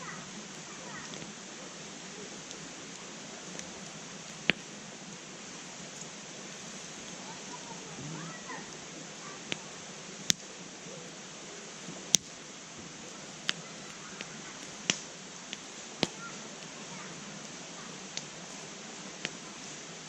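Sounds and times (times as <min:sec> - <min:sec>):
campfire crackling and popping: 0:00.0 - 0:20.0
fire hiss: 0:00.0 - 0:20.0.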